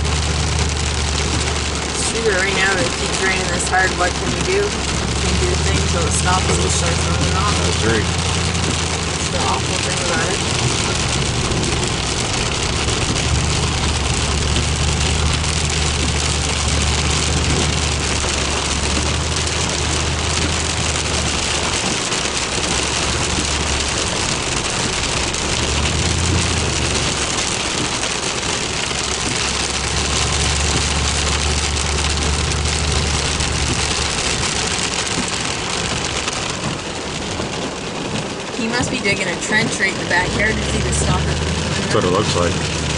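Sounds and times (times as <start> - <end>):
heavy rain falling: 0.0 - 42.9
low engine hum: 0.0 - 42.9.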